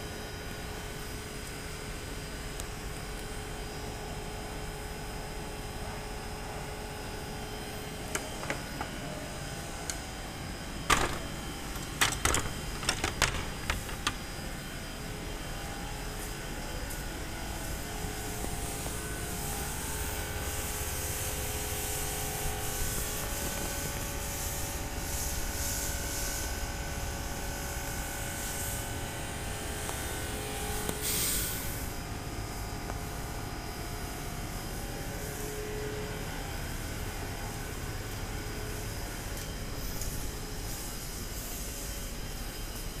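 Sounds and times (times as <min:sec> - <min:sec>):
machinery humming: 0:00.0 - 0:43.0.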